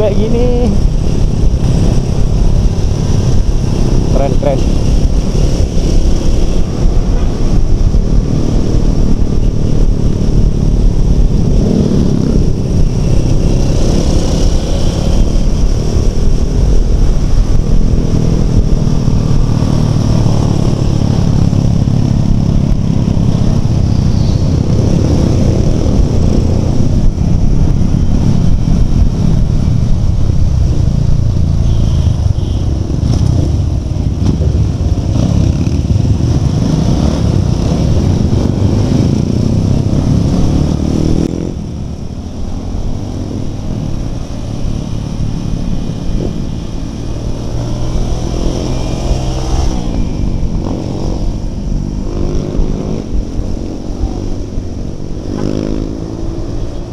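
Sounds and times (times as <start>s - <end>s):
motorcycle engines running: 0.0s - 56.9s
wind noise on microphone: 0.0s - 56.9s.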